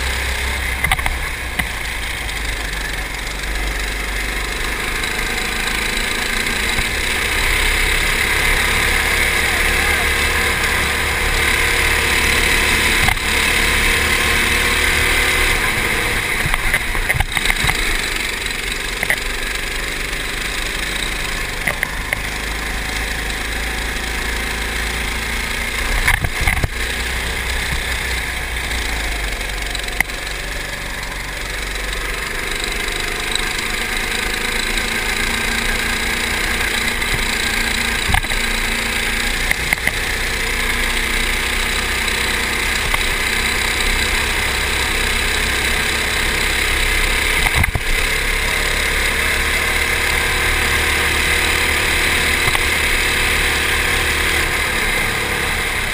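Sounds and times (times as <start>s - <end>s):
go-kart engine revving: 0.0s - 55.9s.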